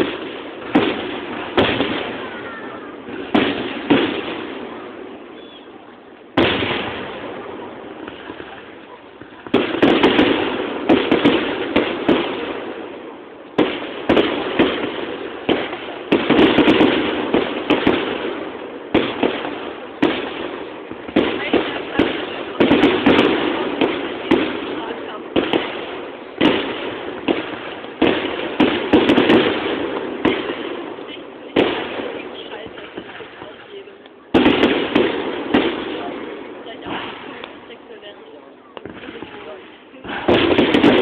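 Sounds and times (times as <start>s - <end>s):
fireworks bursting with bangs: 0.0s - 41.0s.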